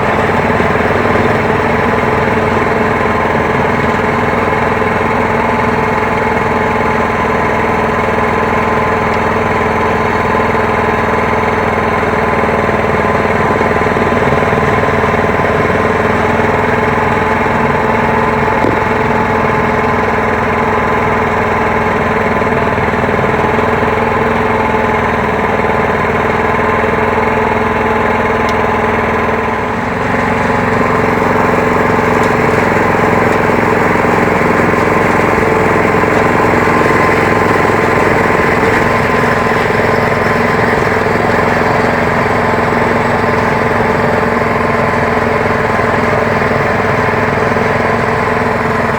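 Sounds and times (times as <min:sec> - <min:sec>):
small petrol engine running: 0:00.0 - 0:48.9.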